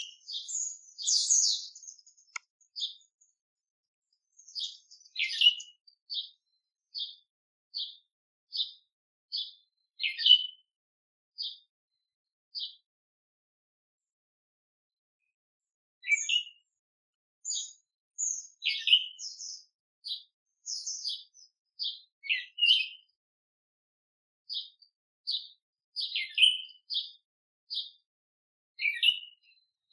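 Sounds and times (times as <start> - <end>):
songbirds chirping: 0.0 - 10.8, 11.4 - 12.9, 15.2 - 23.2, 24.5 - 28.1, 28.8 - 29.9.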